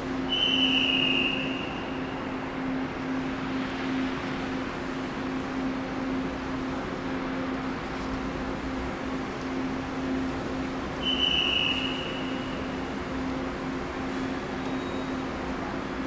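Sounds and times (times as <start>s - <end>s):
train humming at platform: 0.0s - 16.0s.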